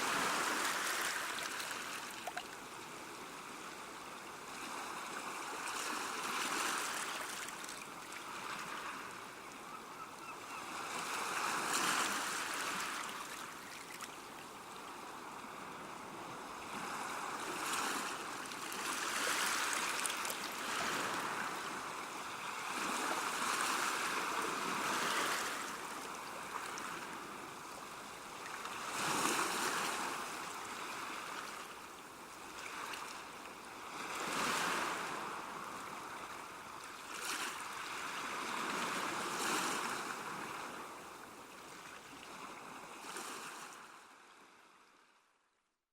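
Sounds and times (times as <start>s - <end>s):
small waves washing onto shore: 0.0s - 3.6s, 10.5s - 44.5s.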